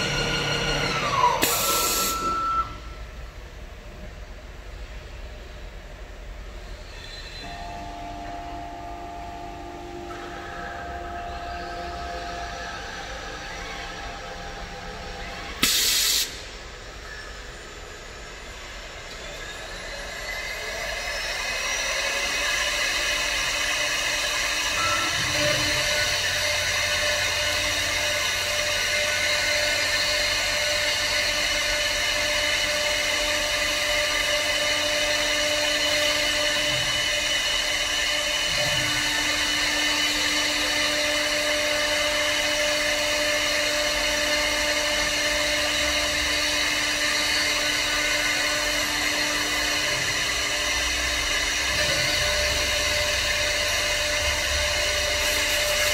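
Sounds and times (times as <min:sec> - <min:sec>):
wood lathe cutter whining: 0:00.0 - 0:02.6, 0:07.4 - 0:15.7, 0:18.8 - 0:55.9.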